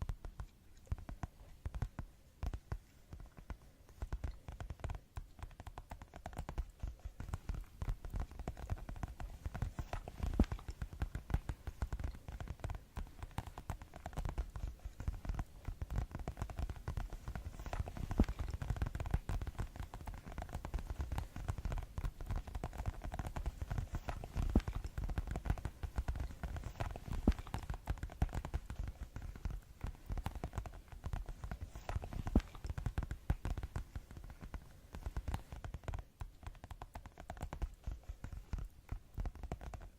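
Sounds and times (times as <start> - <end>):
fast tapping: 0.0 - 39.9.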